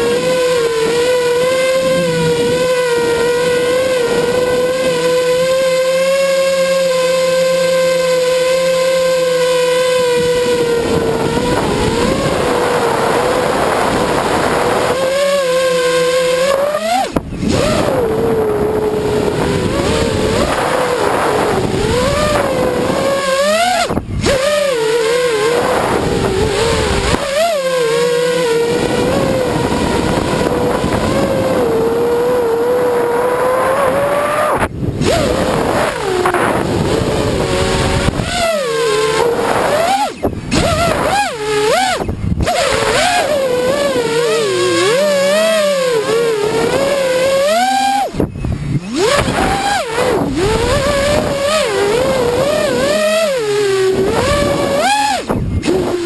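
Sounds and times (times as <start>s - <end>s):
drone propellers whining: 0.0s - 56.0s.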